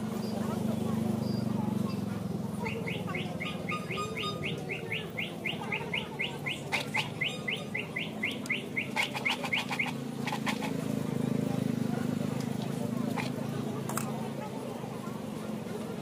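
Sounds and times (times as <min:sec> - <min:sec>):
low outdoor murmur: 0:00.0 - 0:16.0.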